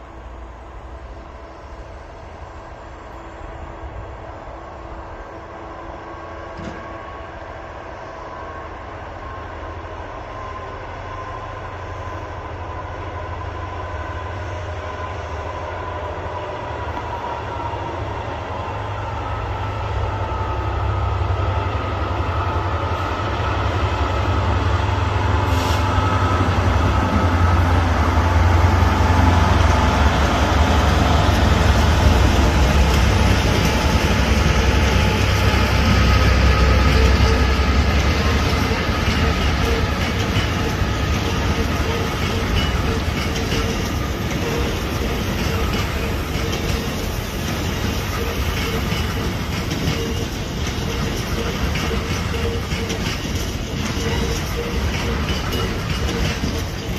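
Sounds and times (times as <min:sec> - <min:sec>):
diesel locomotive engine rumble: 0:00.0 - 0:56.9
train wheel noise: 0:06.4 - 0:56.9.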